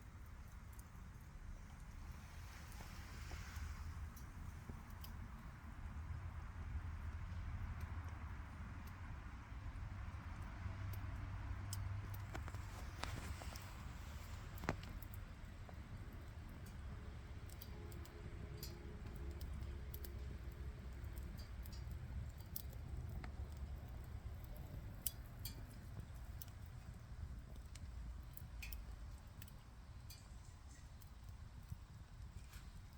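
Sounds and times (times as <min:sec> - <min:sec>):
campfire crackling and popping: 0:00.0 - 0:32.9.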